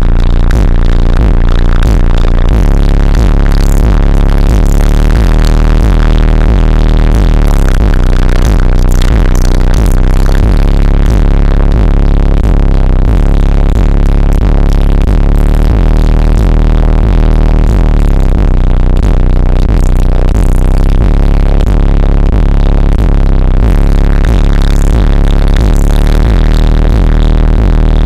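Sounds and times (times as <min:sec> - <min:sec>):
bass-heavy electronic music: 0:00.0 - 0:28.0.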